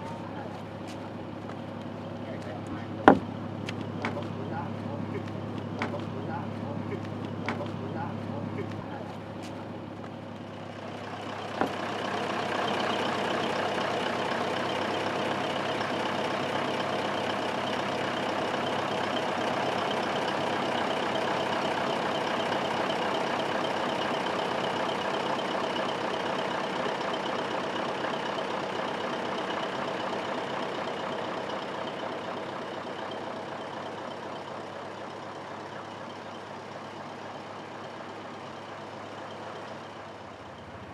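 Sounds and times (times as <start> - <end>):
diesel engine droning with whine: 0.0 - 40.9.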